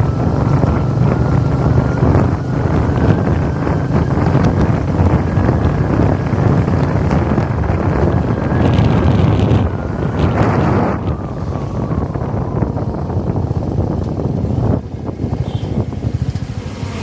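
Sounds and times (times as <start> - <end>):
motorcycle engine and exhaust: 0.0 - 17.0
wind buffeting microphone: 0.0 - 17.0.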